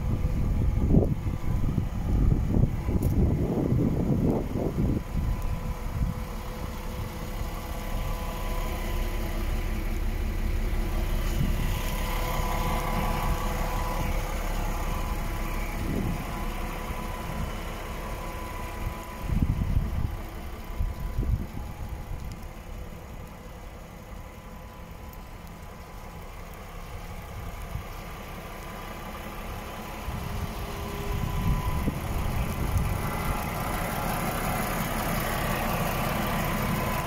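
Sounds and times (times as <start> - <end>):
diesel truck engine idling: 0.0 - 37.0
low engine rumbles: 0.0 - 37.0.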